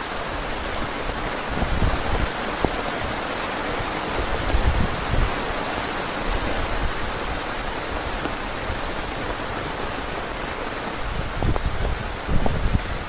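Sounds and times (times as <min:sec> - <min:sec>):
heavy rain falling: 0:00.0 - 0:13.0
low gusty rumbles: 0:00.6 - 0:05.4, 0:06.4 - 0:13.0.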